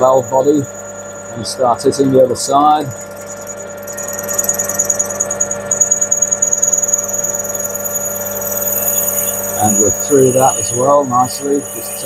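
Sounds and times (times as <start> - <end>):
drill squealing: 0.0 - 12.0
lathe running hum: 0.0 - 12.0.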